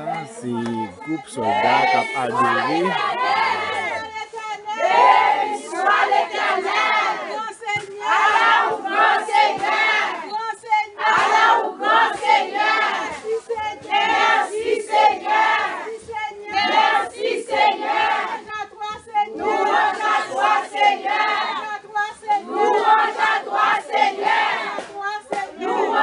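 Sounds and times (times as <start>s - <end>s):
women praying aloud: 0.0s - 26.0s.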